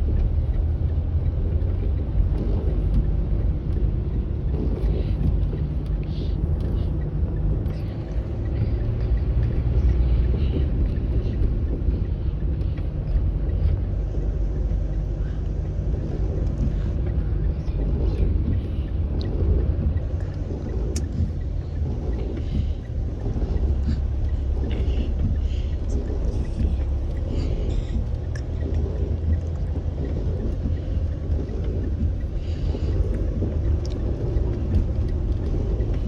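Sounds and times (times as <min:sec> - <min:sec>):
car engine rumble: 0:00.0 - 0:36.0
road noise: 0:00.0 - 0:36.0.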